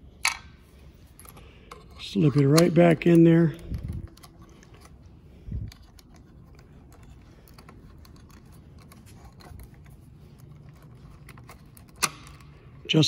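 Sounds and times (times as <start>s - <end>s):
wires clicking and tapping: 0.2s - 13.0s.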